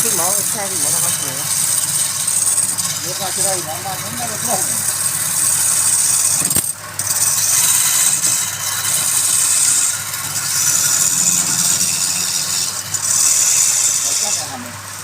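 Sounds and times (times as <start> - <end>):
turning tool hissing on wood: 0.0 - 6.4, 7.0 - 15.0
wood lathe humming: 0.0 - 15.0.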